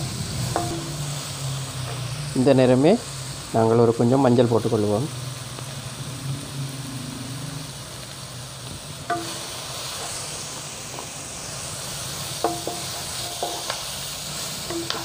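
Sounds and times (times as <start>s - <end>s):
masala sizzling in wok: 0.0s - 15.0s.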